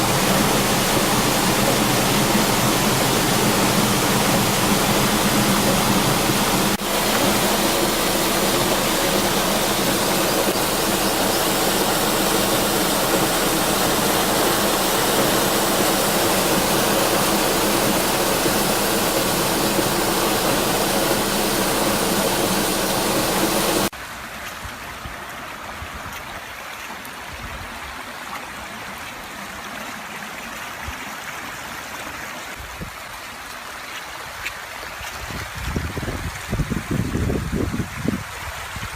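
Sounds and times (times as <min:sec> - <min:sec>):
rushing floodwater: 0:00.0 - 0:38.9.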